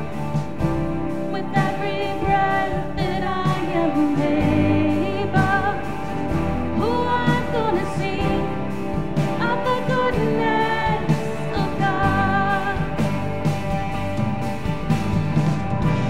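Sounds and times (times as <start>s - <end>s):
worship band playing: 0.0s - 16.0s.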